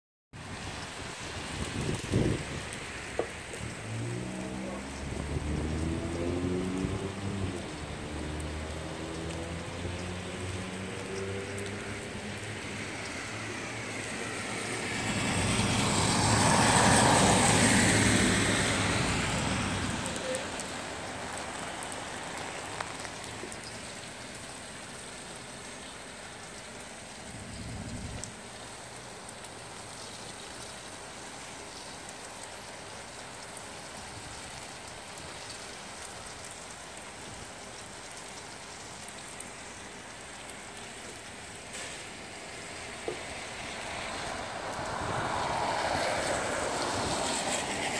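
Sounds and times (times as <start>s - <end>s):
rain on pavement: 0.3s - 47.9s
car tyres hissing on wet street: 0.4s - 47.9s.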